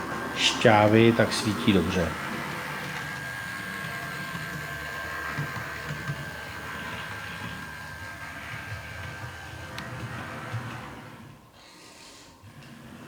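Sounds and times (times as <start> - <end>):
low wheel rumble: 0.0 - 11.6
small motor whine: 0.0 - 13.0.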